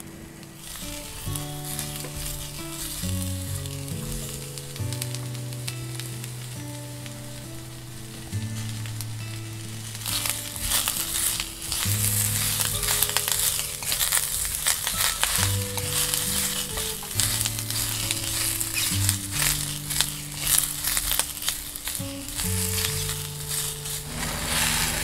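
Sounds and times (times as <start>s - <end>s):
mushrooms and onion sizzling: 0.0s - 25.0s
soft background music: 0.0s - 25.0s
wooden spatula scraping a wok: 0.6s - 6.5s, 9.6s - 25.0s.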